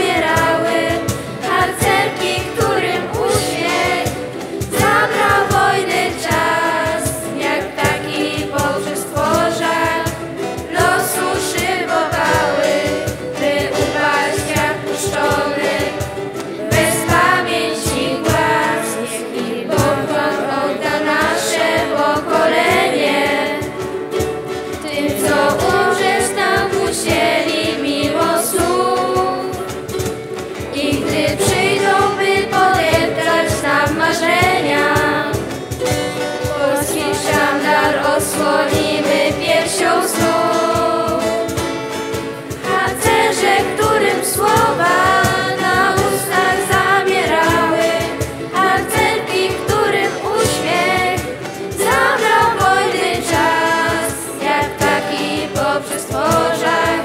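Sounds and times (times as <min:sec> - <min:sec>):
group of young singers: 0:00.0 - 0:57.0
instrumental accompaniment: 0:00.0 - 0:57.0.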